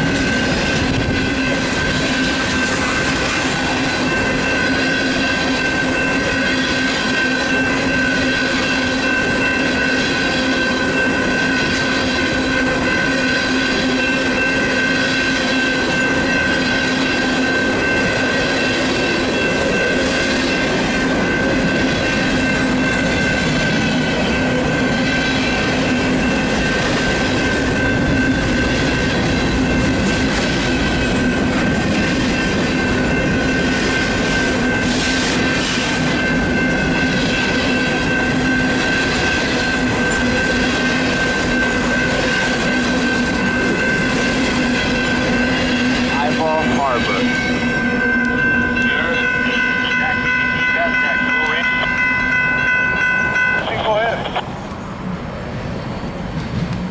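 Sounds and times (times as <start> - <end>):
electronic crossing bell ringing: 0.0 - 54.4
freight train wheels rumbling on rail: 0.0 - 56.9.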